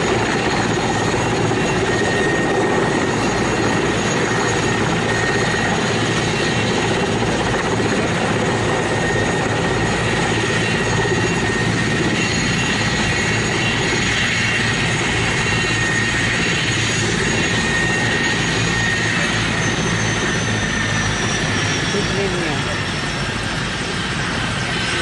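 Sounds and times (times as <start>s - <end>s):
helicopter turbine and rotor noise: 0.0s - 25.0s.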